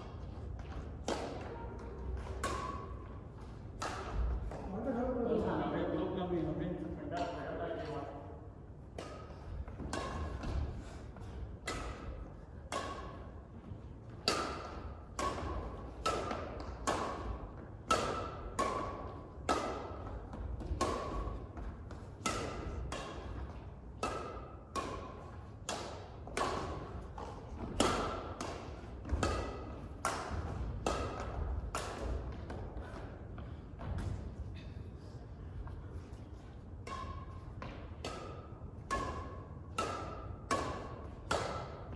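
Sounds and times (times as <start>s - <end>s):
rackets hitting shuttlecock: 0.0s - 5.0s, 8.8s - 34.4s, 35.6s - 41.9s.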